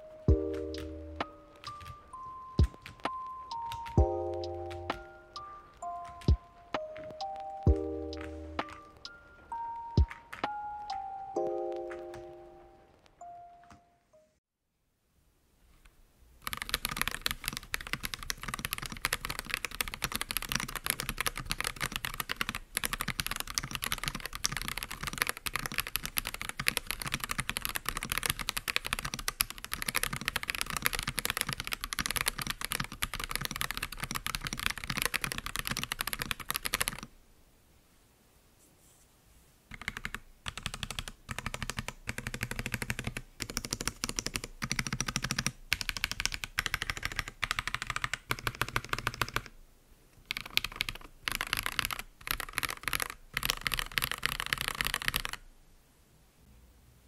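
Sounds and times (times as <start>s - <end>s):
typing on mechanical keyboard: 0.3s - 12.4s, 16.4s - 37.1s, 39.7s - 49.6s, 50.2s - 55.4s.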